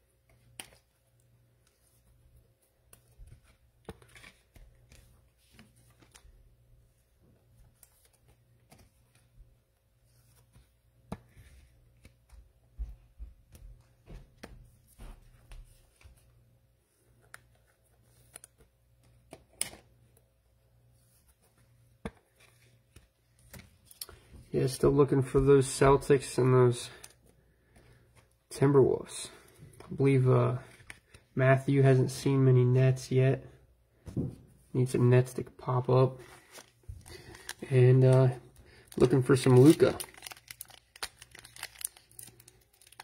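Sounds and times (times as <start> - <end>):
cards and wrappers rustling: 0.1 - 20.3, 20.9 - 32.2, 34.9 - 43.0.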